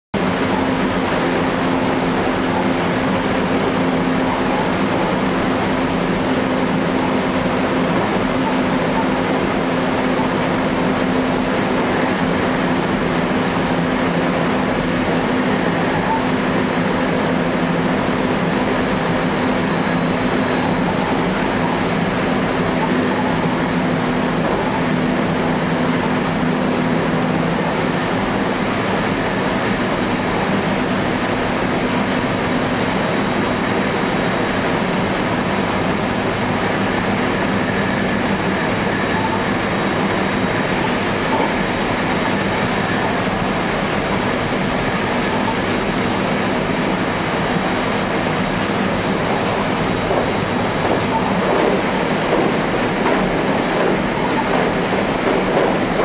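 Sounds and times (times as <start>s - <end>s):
train wheels rumbling on rail: 0.2s - 56.0s.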